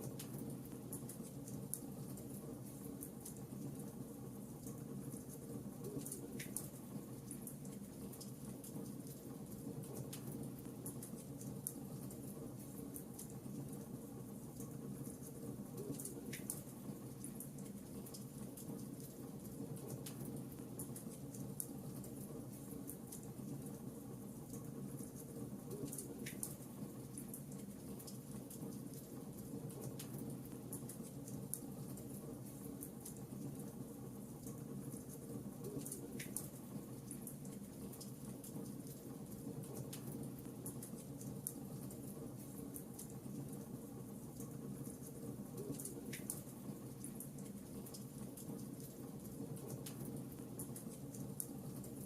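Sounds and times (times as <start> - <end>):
wood fire crackling: 6.0 - 52.0.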